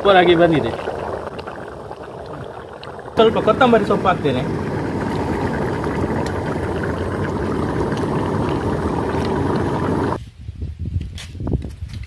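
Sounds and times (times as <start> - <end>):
gas burner running: 0.0 - 10.2.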